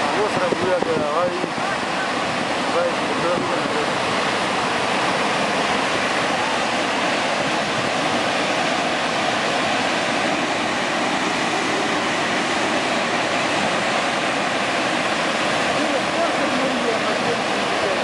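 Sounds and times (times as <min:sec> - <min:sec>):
floodwater rushing through spillway: 0:00.0 - 0:18.0.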